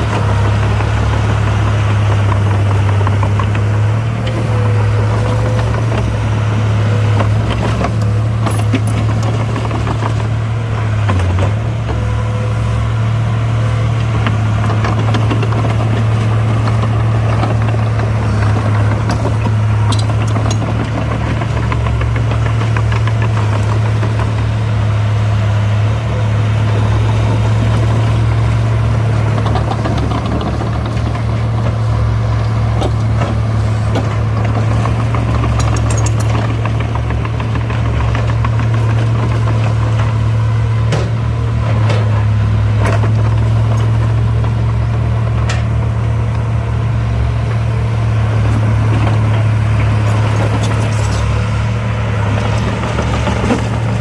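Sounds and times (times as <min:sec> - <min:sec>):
heavy diesel engine humming: 0:00.0 - 0:54.0.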